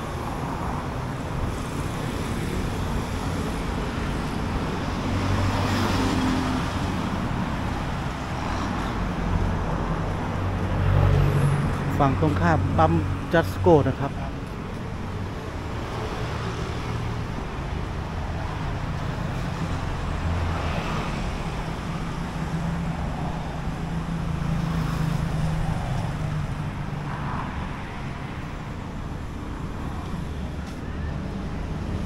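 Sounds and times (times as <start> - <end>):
low traffic hum: 0.0 - 32.0
vehicles passing by: 0.0 - 32.0.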